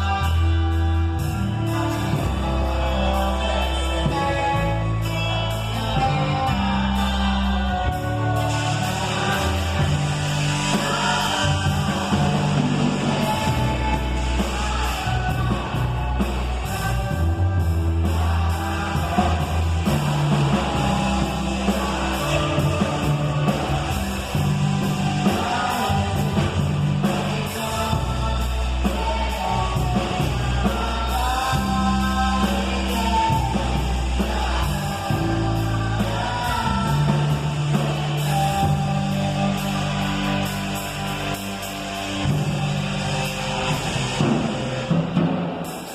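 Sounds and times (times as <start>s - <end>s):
bass line: 0.0s - 45.9s
person singing: 0.0s - 45.9s
steady drums: 0.0s - 45.9s.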